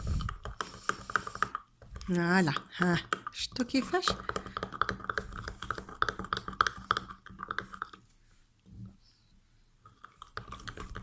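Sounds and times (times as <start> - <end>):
utensil beating paste in bowl: 0.0 - 8.2, 9.8 - 11.0.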